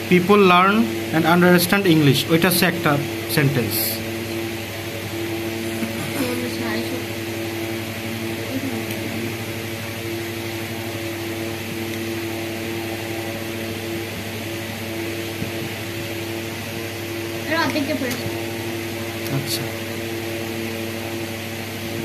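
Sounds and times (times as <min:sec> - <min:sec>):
motor humming and hissing: 0:00.0 - 0:22.0.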